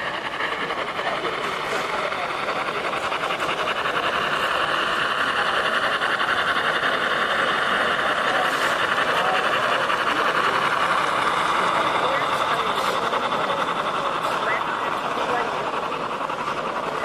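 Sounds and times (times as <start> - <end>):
model train wheels rattling on rail: 0.0 - 17.0
small locomotive motor: 0.0 - 17.0.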